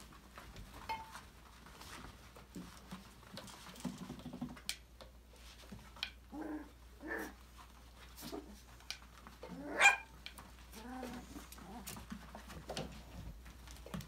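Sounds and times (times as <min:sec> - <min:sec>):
patter of small paws: 0:00.0 - 0:14.0.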